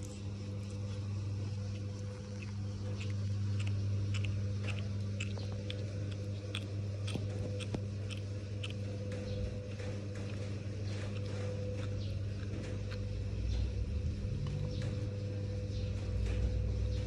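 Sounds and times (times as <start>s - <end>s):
cat chewing food: 0.0s - 15.6s
steady low hum: 0.0s - 17.0s.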